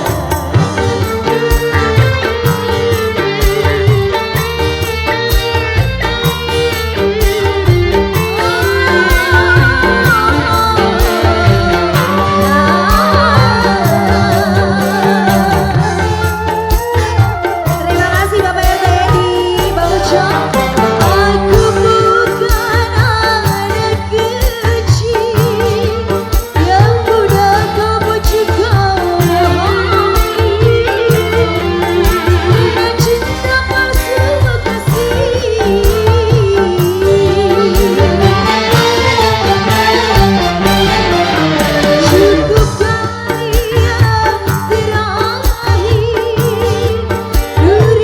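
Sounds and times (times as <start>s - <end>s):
live band instrumental music: 0.0s - 48.0s.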